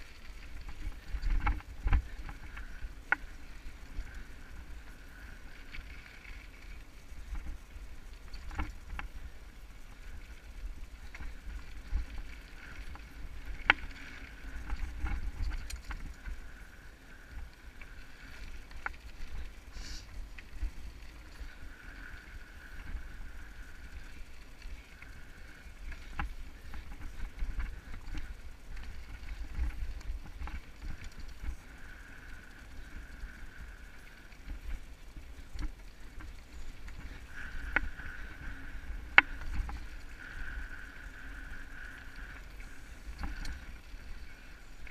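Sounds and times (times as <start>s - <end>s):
bike clicking and rattling: 0.0s - 44.9s
bike tyres rumbling on gravel: 0.0s - 44.9s.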